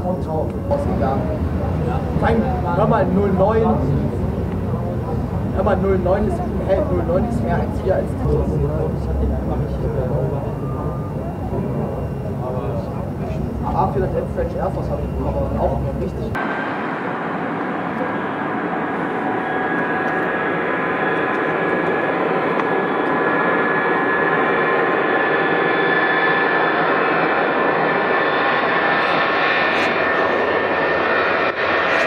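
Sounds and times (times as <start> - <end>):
jet engine whine: 0.0 - 32.0
jet engines roaring: 0.0 - 32.0.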